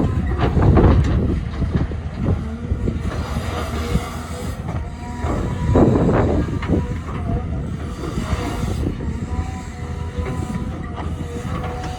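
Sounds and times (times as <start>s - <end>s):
excavator diesel engine rumble: 0.0s - 11.9s.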